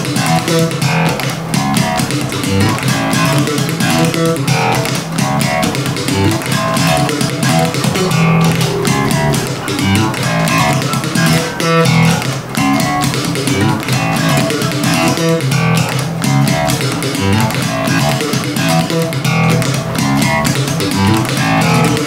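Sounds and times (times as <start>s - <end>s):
bass guitar plucked notes: 0.0s - 22.0s.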